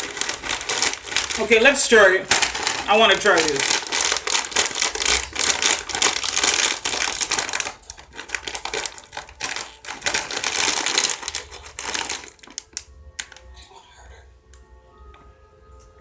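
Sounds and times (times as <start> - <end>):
plastic wrapper crinkling: 0.0 - 13.6.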